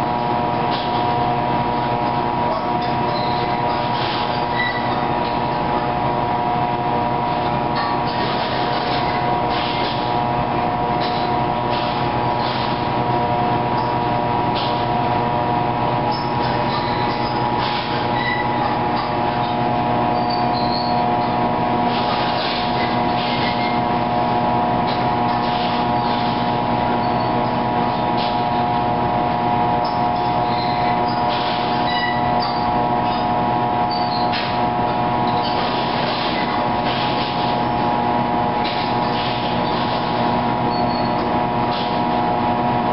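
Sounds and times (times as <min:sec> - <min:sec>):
steady machinery hum: 0:00.0 - 0:42.9.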